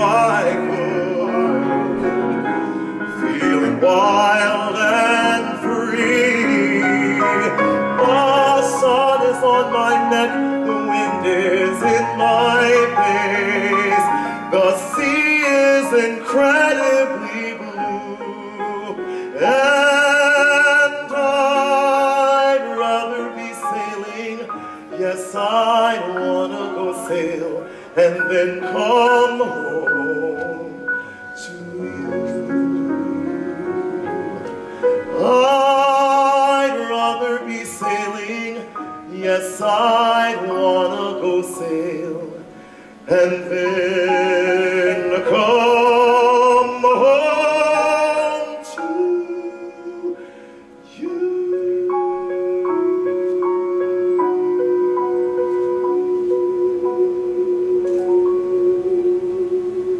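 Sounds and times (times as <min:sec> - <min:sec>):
grand piano: 0:00.0 - 0:59.9
man singing with vibrato: 0:00.0 - 0:59.9.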